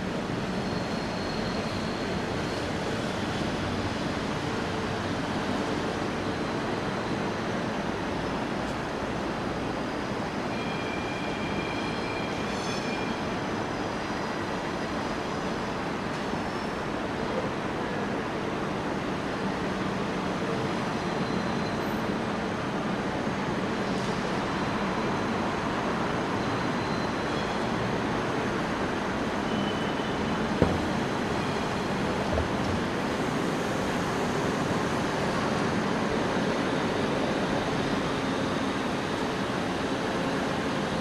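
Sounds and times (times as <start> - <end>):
railway station hum and hiss: 0.0 - 41.0.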